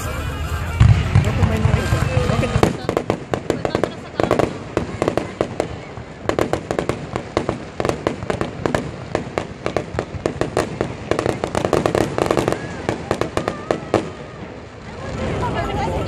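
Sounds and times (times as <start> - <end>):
fireworks crackling pops: 0.0 - 16.0.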